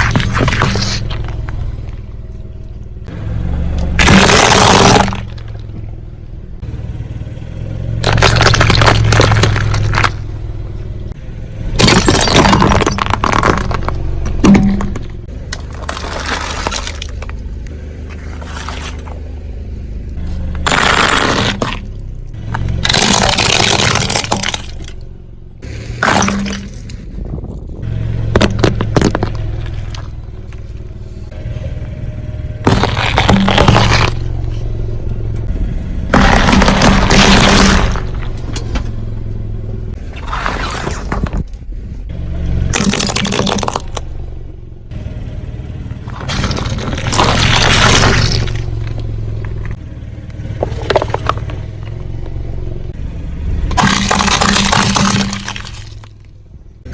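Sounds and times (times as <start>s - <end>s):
car tyre crushing objects: 0.0s - 6.6s, 7.7s - 56.9s
car engine hum: 0.0s - 56.9s.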